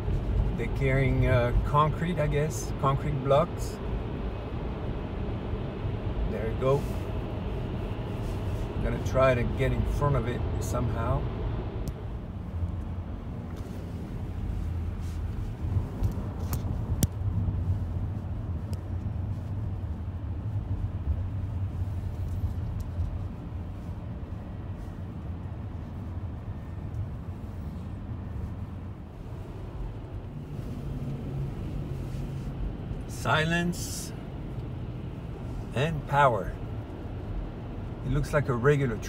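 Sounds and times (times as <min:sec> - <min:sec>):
road and tyre noise in car: 0:00.0 - 0:39.0.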